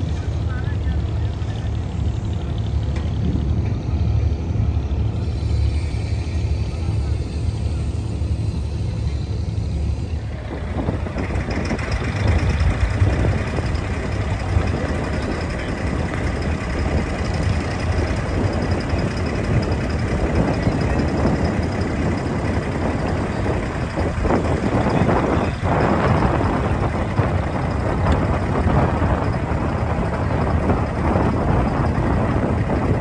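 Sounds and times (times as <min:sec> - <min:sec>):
boat engine low rumble: 0:00.0 - 0:33.0
hiss of water and wind: 0:00.0 - 0:33.0.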